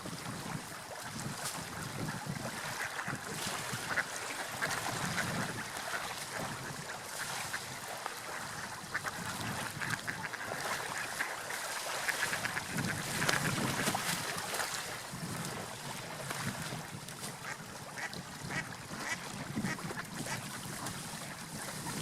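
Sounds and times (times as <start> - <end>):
sea waves washing: 0.0 - 22.0
wind: 0.0 - 22.0.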